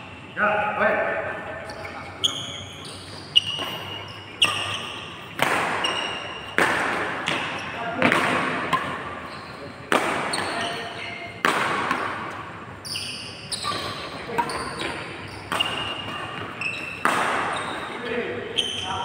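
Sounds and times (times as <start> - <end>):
rackets hitting shuttlecock: 2.1 - 18.0.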